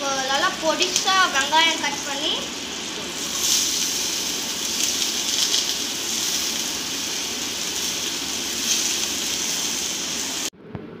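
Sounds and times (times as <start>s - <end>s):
hot oil sizzling in a frying pan: 0.0s - 10.5s.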